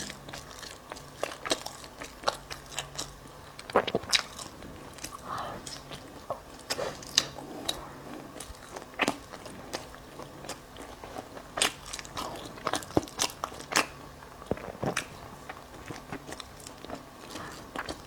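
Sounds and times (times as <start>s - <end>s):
crunching bites and chewing: 0.0s - 18.0s.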